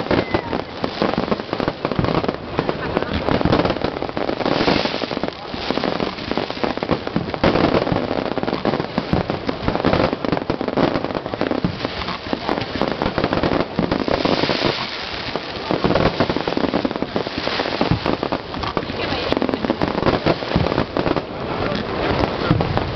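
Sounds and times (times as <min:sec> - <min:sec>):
fireworks crackling: 0:00.0 - 0:22.9.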